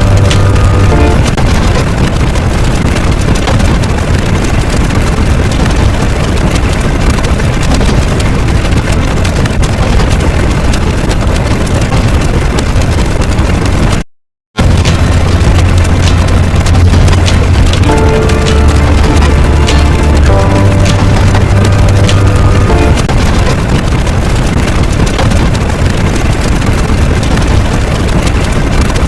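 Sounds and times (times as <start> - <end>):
loud steady rumbling: 0.0 - 14.0, 14.6 - 29.0.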